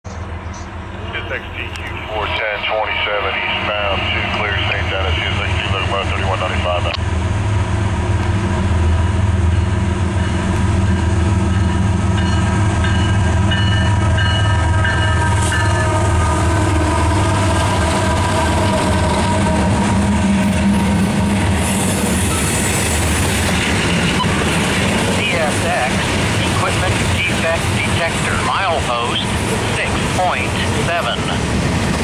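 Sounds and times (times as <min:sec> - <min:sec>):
diesel locomotive engine drone: 0:00.1 - 0:32.0.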